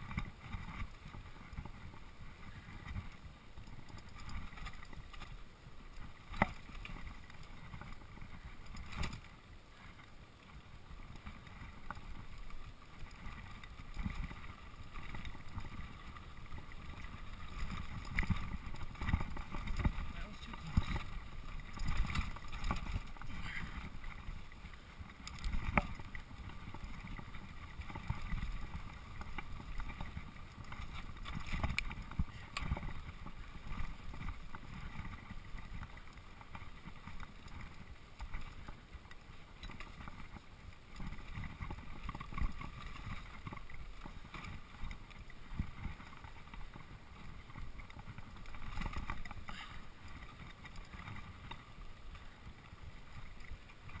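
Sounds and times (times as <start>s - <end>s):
bike tyres rumbling on dirt: 0.0s - 54.0s.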